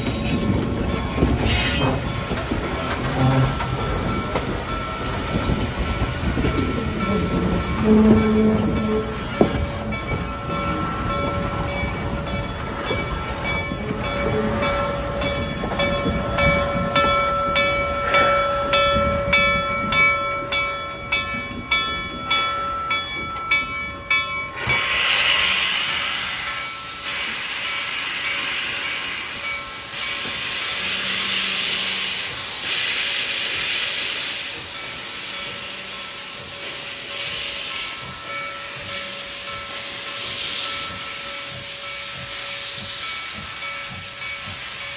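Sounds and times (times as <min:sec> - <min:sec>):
steam hissing: 0:00.0 - 0:20.0, 0:24.5 - 0:44.9
train wheels squealing: 0:00.0 - 0:44.9.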